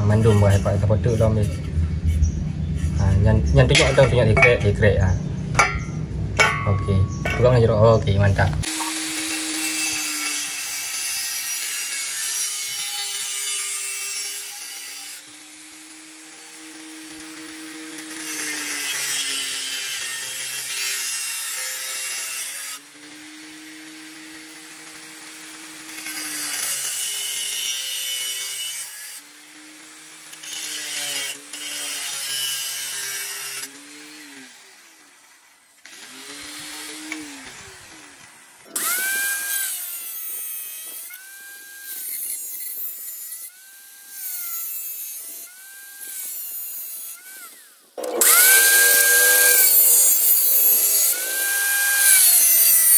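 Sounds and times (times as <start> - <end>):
grinder motor whine: 0.0 - 28.6, 29.2 - 52.9
angle grinder cutting steel tube: 0.0 - 52.9.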